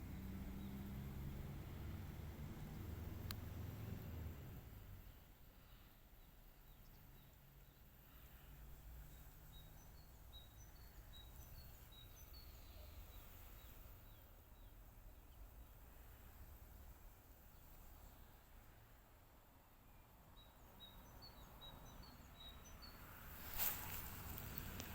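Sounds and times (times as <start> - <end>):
songbird chirps: 0.0 - 24.9.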